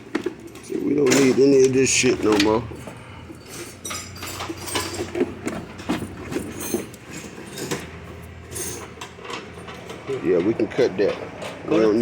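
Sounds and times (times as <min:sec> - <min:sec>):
hand tools clicking and rattling: 0:00.0 - 0:12.0.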